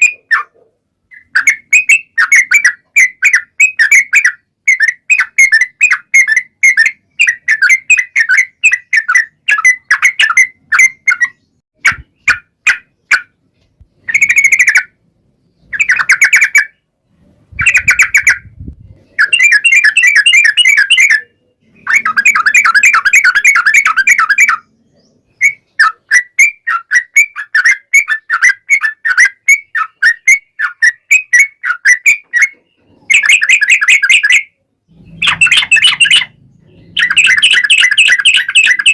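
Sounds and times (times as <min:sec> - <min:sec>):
bulbul chattering song: 0:00.0 - 0:38.9.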